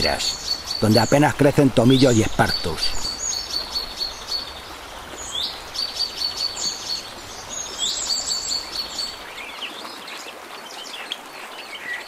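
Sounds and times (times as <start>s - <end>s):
background hiss: 0.0s - 12.0s
songbird singing: 0.0s - 12.0s.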